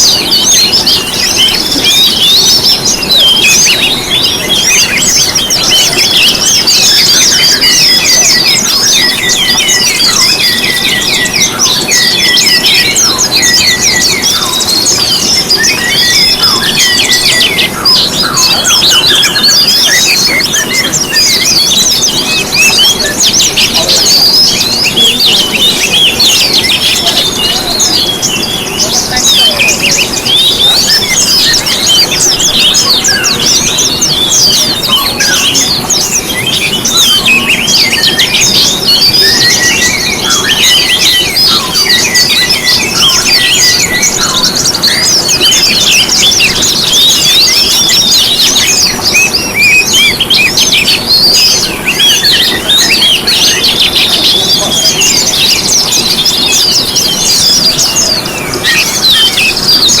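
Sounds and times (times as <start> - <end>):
songbirds chirping and trilling: 0.0 - 60.0.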